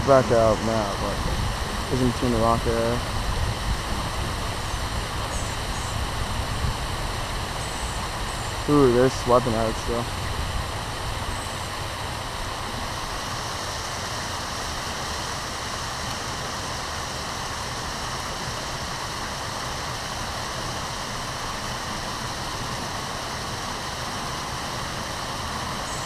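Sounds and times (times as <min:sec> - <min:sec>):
river water over rocks: 0:00.0 - 0:26.0.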